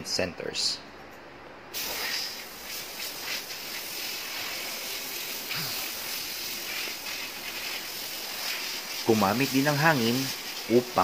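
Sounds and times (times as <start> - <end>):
compressed air blow gun: 1.8 - 11.0.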